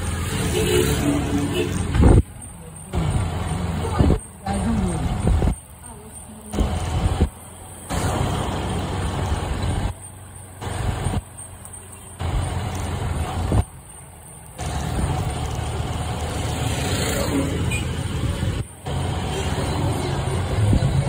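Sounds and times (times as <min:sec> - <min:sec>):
motorcycle engine rumble: 0:00.0 - 0:21.0.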